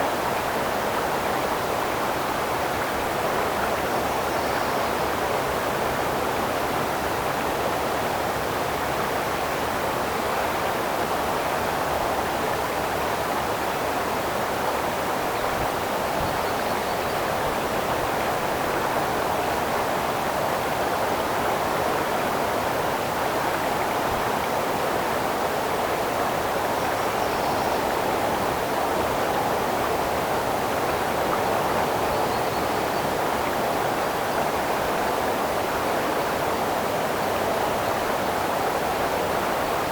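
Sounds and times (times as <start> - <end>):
creek flowing: 0.0 - 39.9.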